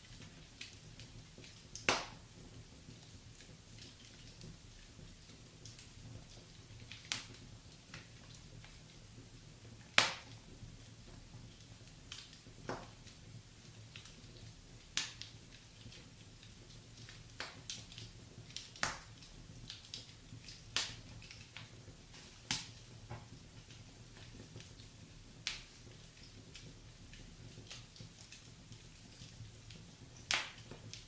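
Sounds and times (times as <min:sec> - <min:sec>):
faint low hiss: 0:00.0 - 0:31.0
wood fire crackling: 0:00.0 - 0:31.0.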